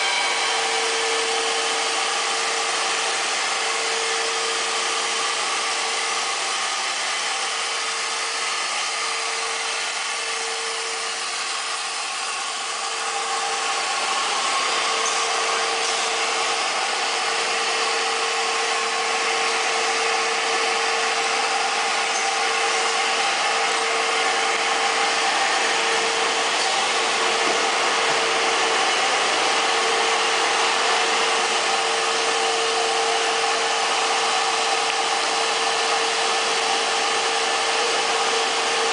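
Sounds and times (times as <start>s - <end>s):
machinery running: 0.0s - 38.9s.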